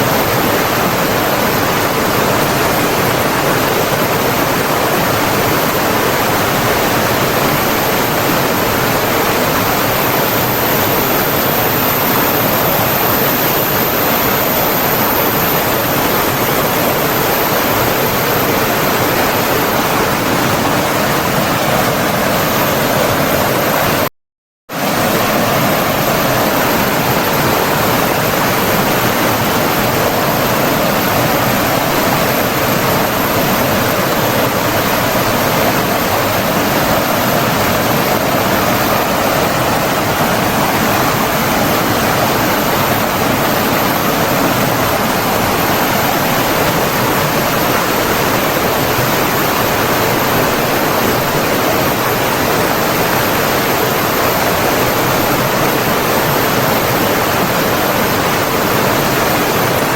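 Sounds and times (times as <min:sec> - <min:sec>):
water rushing: 0:00.0 - 0:24.1, 0:24.7 - 0:59.9.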